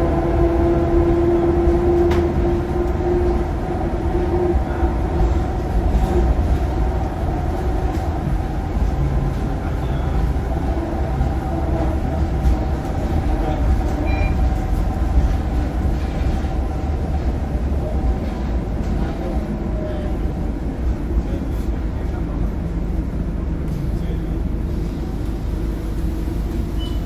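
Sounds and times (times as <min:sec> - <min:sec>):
bus diesel engine rumble: 0:00.0 - 0:27.0.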